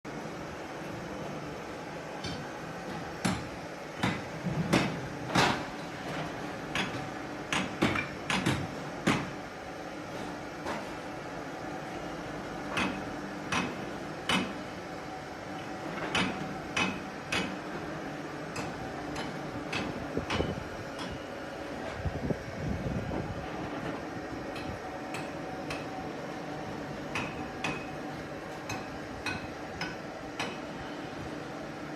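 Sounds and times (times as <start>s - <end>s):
machinery hum: 0.1s - 31.9s.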